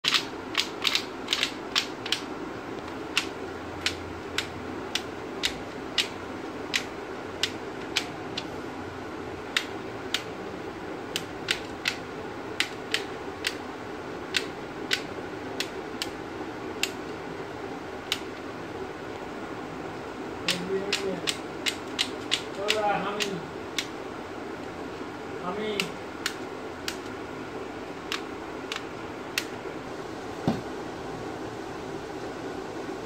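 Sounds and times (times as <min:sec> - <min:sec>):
low background noise: 0:00.0 - 0:33.0.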